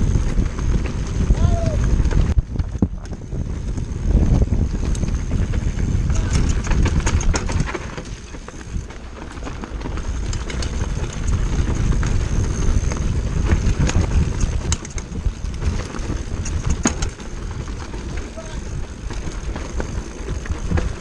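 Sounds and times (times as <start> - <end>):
bike tyres crunching over rock: 0.0 - 21.0
wind rumble on microphone: 0.0 - 21.0.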